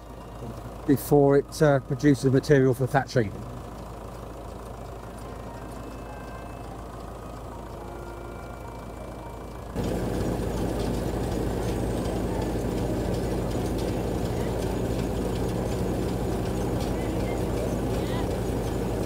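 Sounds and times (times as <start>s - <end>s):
threshing machine noise: 0.0s - 19.0s
tractor engine running: 0.0s - 19.0s.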